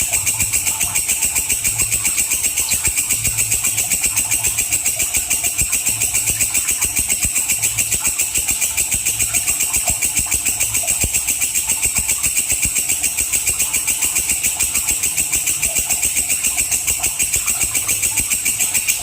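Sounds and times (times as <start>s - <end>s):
insect chirping rapidly: 0.0s - 19.0s.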